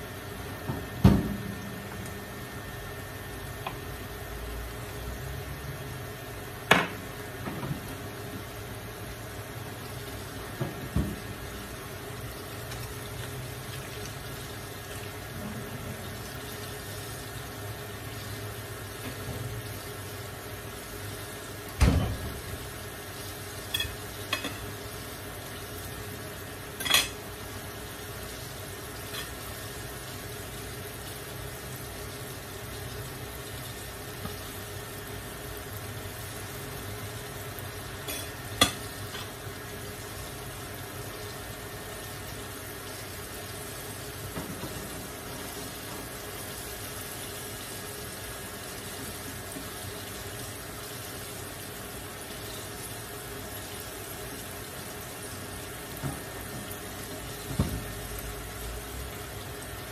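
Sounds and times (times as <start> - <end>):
pot simmering with bubbling hiss: 0.0 - 59.9.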